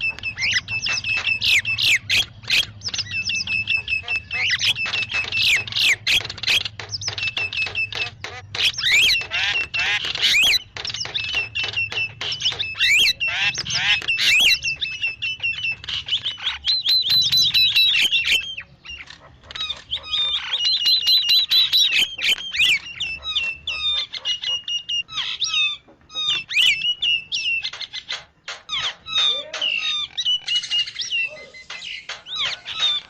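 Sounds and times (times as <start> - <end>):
starling calls: 0.0 - 33.0.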